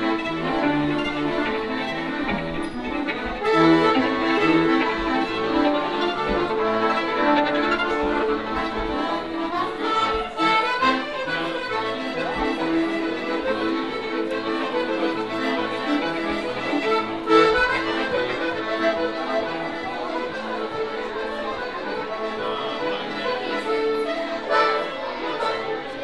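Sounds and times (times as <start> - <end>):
accordion chords: 0.0 - 26.0
bowed violin: 0.0 - 26.0.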